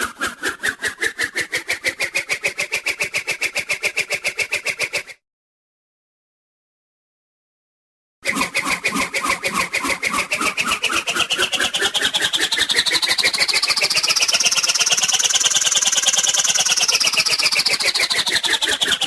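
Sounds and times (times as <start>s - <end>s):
cartoon fluttering whir: 0.0s - 5.2s, 8.2s - 19.0s.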